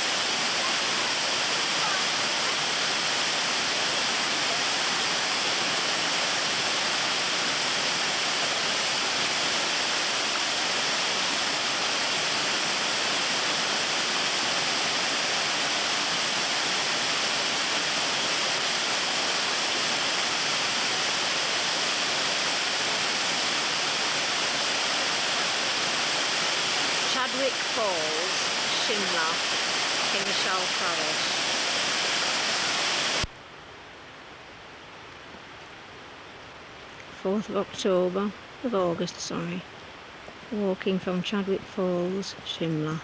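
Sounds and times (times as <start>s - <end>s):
stream and waterfall rushing: 0.0s - 40.5s.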